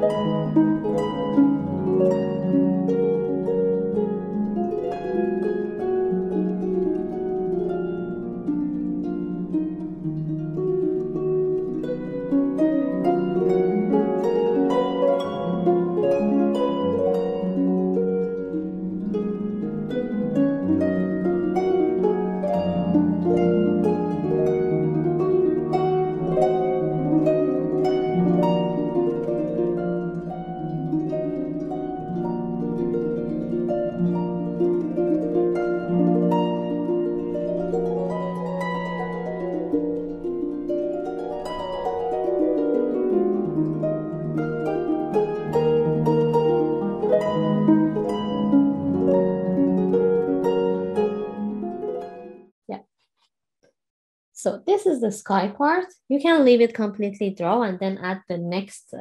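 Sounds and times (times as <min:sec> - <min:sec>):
plucked string music: 0:00.0 - 0:52.5.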